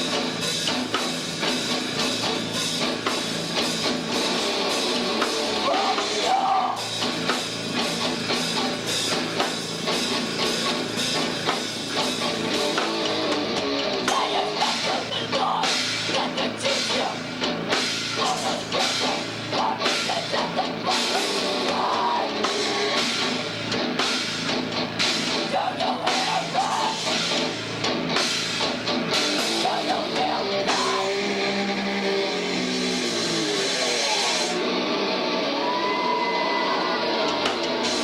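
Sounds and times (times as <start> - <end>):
pounding drum kit: 0.0 - 34.8, 35.6 - 38.0
heavy metal band playing: 0.0 - 38.0.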